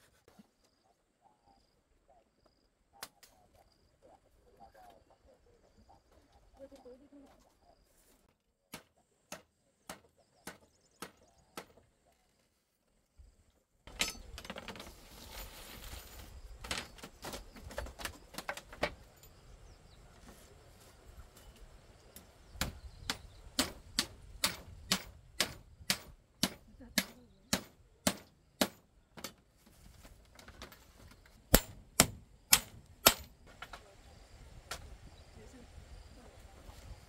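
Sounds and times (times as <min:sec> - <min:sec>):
background noise: 0:00.0 - 0:37.0.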